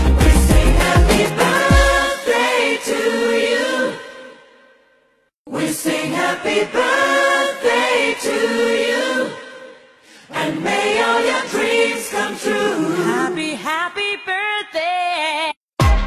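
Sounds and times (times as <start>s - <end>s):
choir singing: 0.0s - 13.7s.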